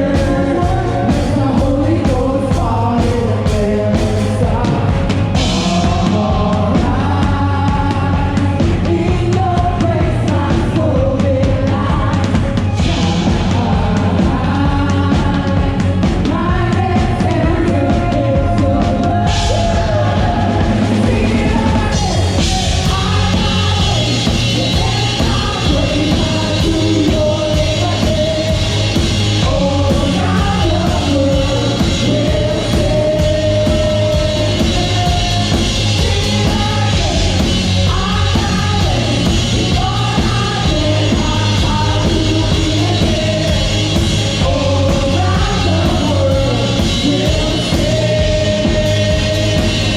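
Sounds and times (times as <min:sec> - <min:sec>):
drum kit: 0:00.0 - 0:49.9
people singing: 0:00.0 - 0:49.9.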